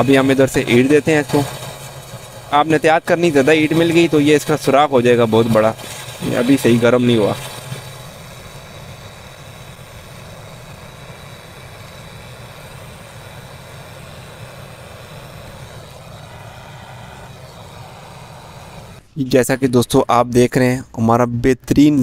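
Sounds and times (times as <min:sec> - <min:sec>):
gas torch hissing: 0:00.0 - 0:19.4.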